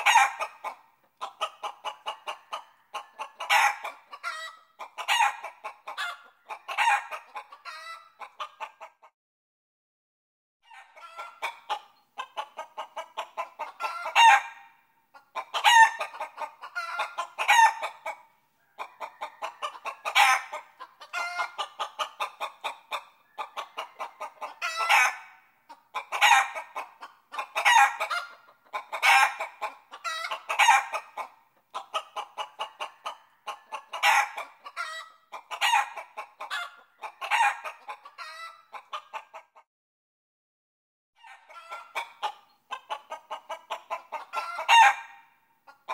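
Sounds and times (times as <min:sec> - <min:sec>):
chickens clucking: 0:00.0 - 0:09.1, 0:10.6 - 0:39.7, 0:41.2 - 0:45.9.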